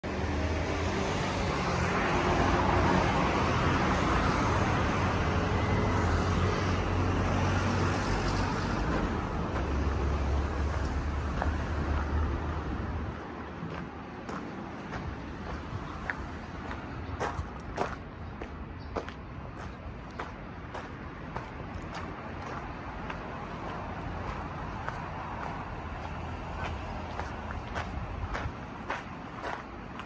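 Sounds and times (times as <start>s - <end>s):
vehicle engine rumble: 0.1s - 30.0s.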